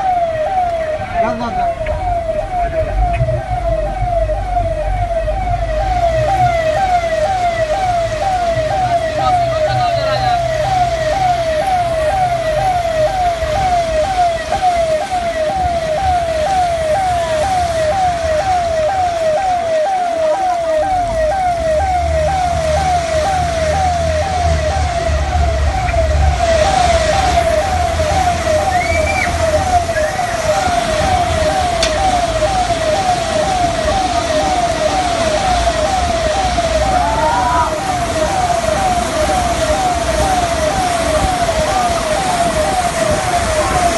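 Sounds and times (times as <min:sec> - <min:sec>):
electronic siren sweeping downward: 0:00.0 - 0:43.9
rumble of traffic and water: 0:00.0 - 0:43.9.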